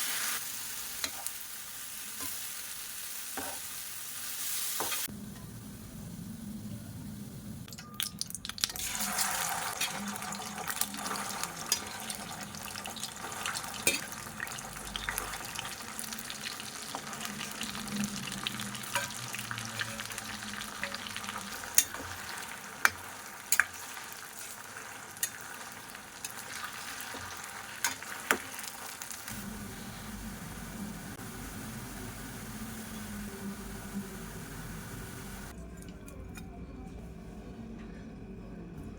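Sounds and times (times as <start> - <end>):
food sizzling in oil: 0.0 - 5.1, 8.0 - 35.5.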